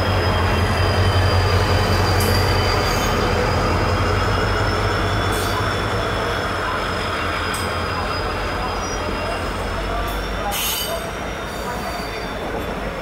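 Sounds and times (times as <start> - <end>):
diesel locomotive engine hum: 0.0 - 13.0
high wheel squeal: 0.0 - 13.0
train wheels rumbling on rails: 0.0 - 13.0.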